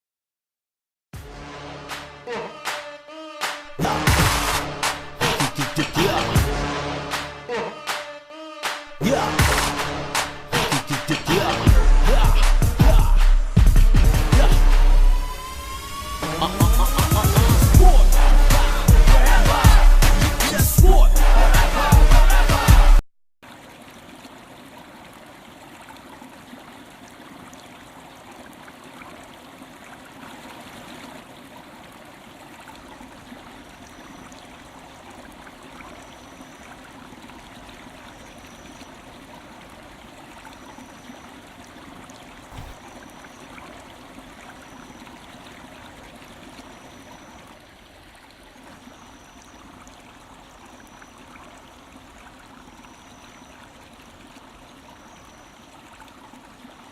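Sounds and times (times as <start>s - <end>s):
stream flowing: 1.4s - 22.7s, 23.4s - 56.9s.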